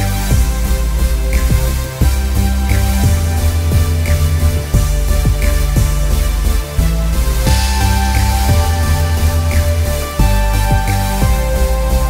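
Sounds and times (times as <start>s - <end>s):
electronic music with bass line: 0.0s - 12.0s.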